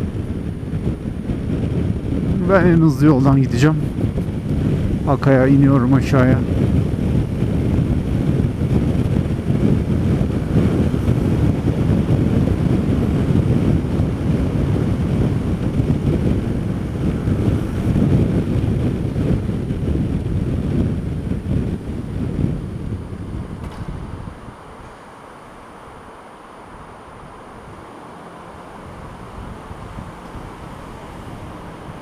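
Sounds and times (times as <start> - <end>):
scooter riding noise: 0.0 - 32.0
wind buffeting microphone: 0.0 - 32.0.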